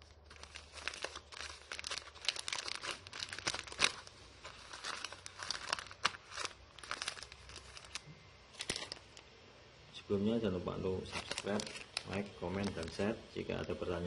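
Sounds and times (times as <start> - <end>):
plastic packaging crinkling: 0.0 - 9.3, 10.8 - 14.0.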